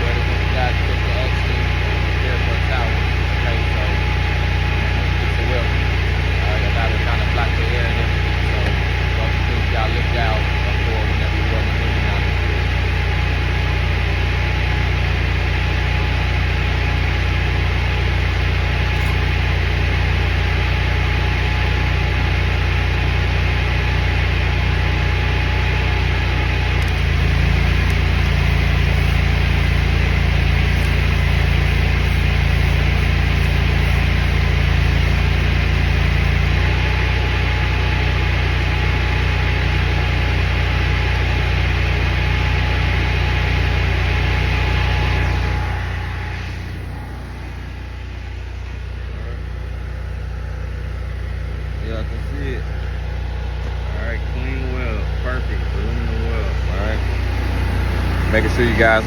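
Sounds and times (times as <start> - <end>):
welding machine engine running: 0.0 - 59.0.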